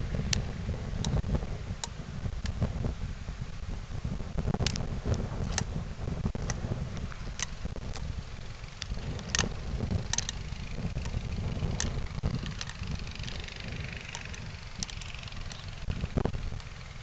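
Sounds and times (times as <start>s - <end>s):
sharp exhaust ticks: 0.0s - 3.0s, 3.6s - 17.0s
car engine exhaust rumble: 0.0s - 17.0s.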